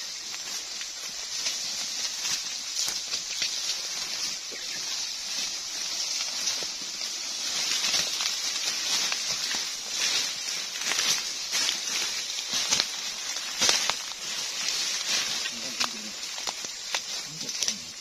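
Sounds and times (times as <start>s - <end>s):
insect chorus droning: 0.0s - 18.0s
leaves rustling underfoot: 0.0s - 18.0s.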